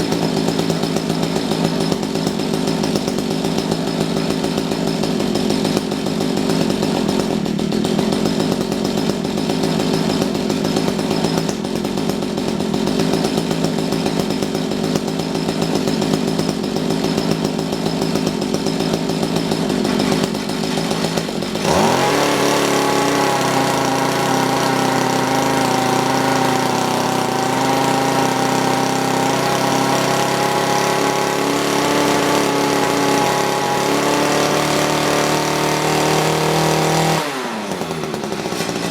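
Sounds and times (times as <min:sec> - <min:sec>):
tiller engine running and revving: 0:00.0 - 0:38.9.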